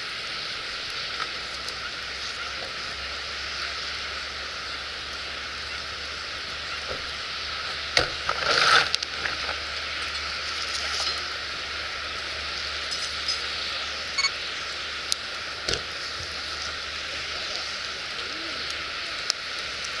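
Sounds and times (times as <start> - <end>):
fire crackling: 0.0 - 20.0
fire popping: 0.0 - 20.0
wood fire hissing: 0.0 - 20.0.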